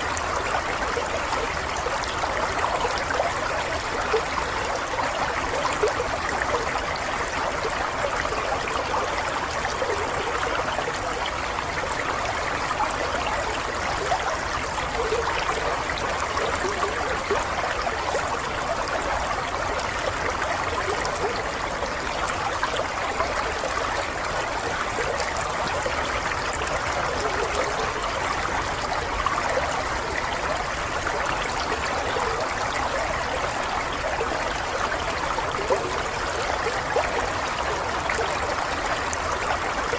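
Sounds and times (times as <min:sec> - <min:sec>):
stream water babbling over stones: 0:00.0 - 0:39.9.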